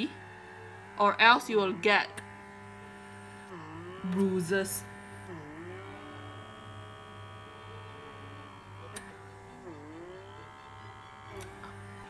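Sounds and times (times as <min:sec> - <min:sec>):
small electric motor humming: 0:00.0 - 0:12.0.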